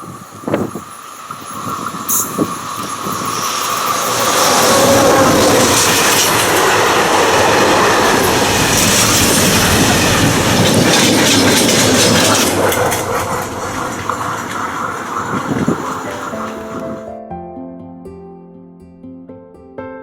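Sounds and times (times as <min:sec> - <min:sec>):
train wheels clattering over joints: 0:00.0 - 0:17.0.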